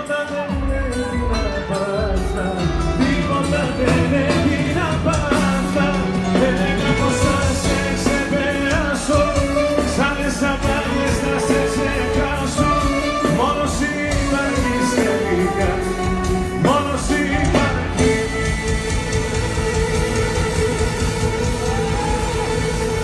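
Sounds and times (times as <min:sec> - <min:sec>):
man singing: 0:00.0 - 0:18.6
live band playing pop song: 0:00.0 - 0:23.0.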